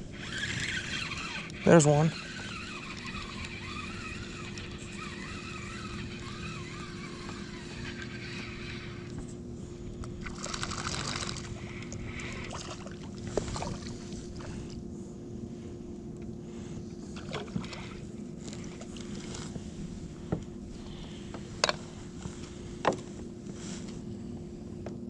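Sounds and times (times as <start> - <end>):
water sloshing around kayak: 0.0 - 15.3, 16.5 - 23.8
wavering whir: 0.0 - 25.0.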